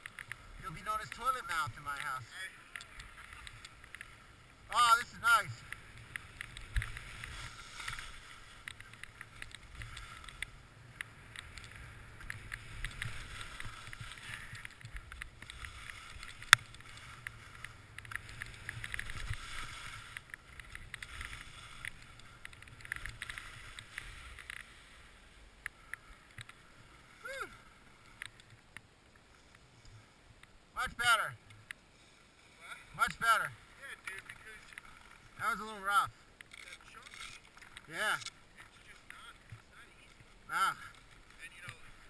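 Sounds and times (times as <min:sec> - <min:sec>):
skis scraping on snow: 0:00.0 - 0:28.4, 0:31.9 - 0:42.0
ski edges clicking: 0:00.0 - 0:30.0, 0:33.0 - 0:42.0.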